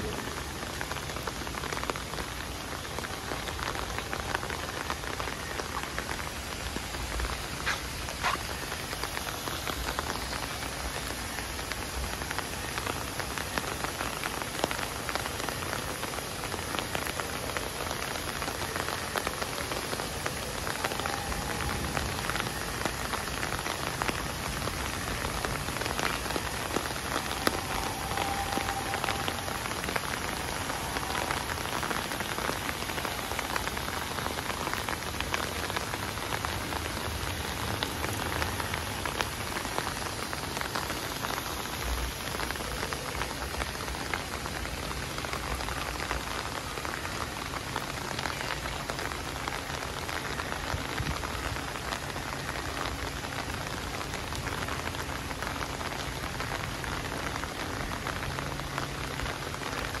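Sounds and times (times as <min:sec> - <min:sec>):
rain on wet pavement: 0:00.0 - 1:00.0.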